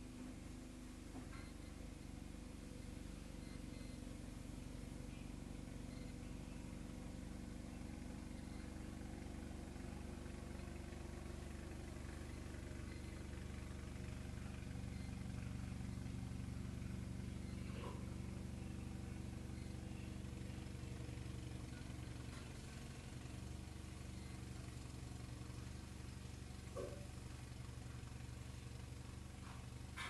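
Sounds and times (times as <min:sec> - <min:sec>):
snowblower engine running: 0:00.0 - 0:30.0.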